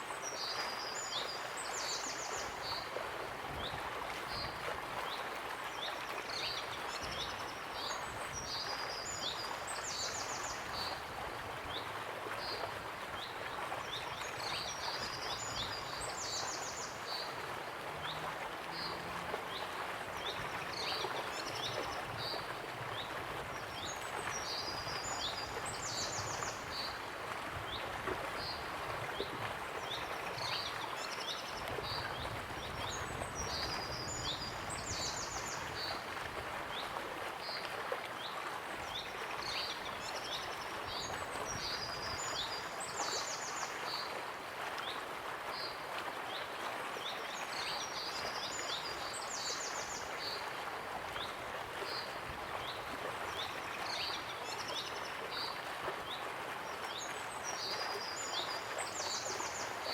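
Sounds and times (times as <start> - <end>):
waterfall rushing water: 9.1 - 59.9.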